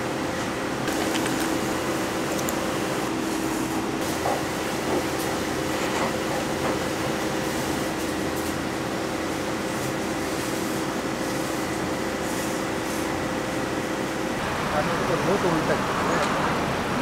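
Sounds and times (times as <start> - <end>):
kitchen machine hum: 0.0 - 17.0.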